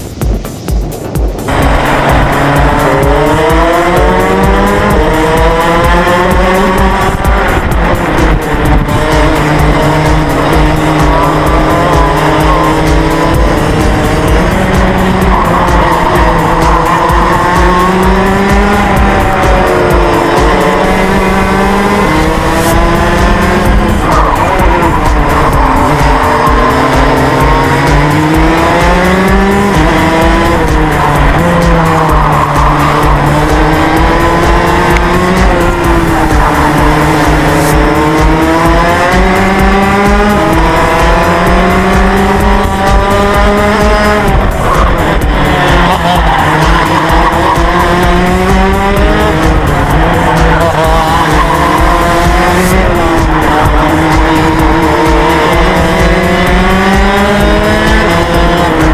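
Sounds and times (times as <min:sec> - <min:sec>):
go-kart engine at speed: 0:00.0 - 0:58.9.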